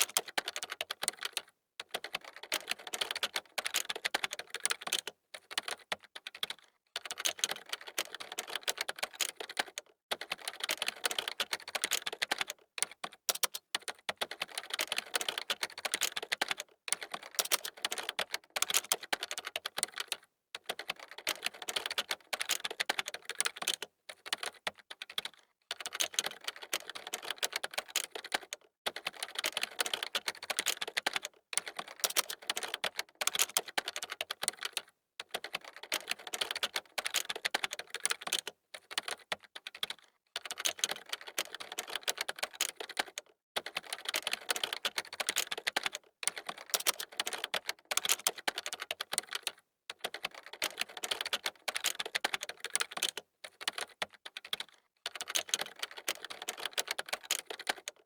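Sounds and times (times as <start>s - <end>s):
fast typing on keyboard: 0.0s - 58.0s.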